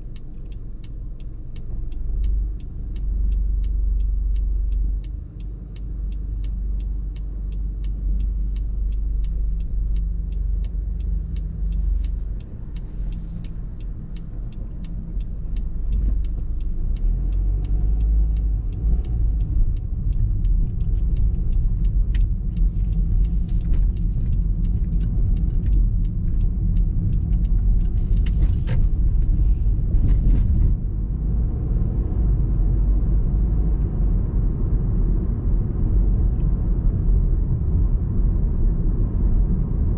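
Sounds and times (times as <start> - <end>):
car engine and tyres rumbling: 0.0 - 39.9
turn signal ticking: 0.0 - 39.9.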